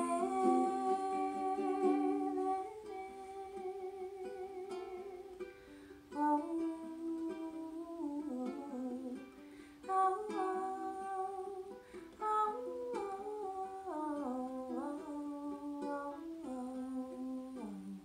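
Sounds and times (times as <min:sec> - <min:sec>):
woman humming: 0:00.0 - 0:05.5, 0:06.1 - 0:09.3, 0:09.9 - 0:18.0
strummed ukulele: 0:00.0 - 0:18.0.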